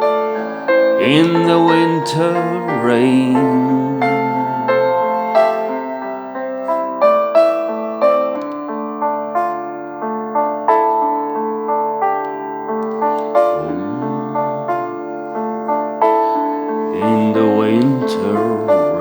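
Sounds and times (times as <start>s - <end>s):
slow solo piano: 0.0s - 19.0s.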